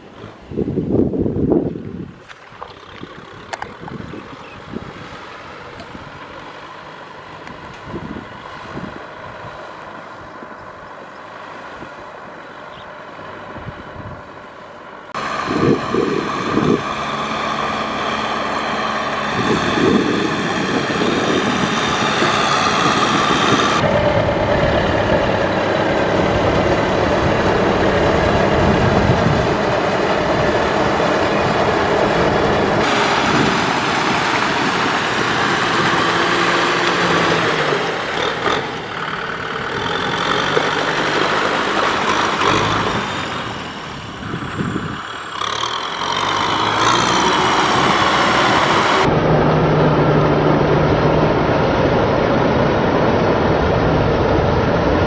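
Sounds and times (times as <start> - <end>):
tractor engine running under load: 0.0 - 52.1.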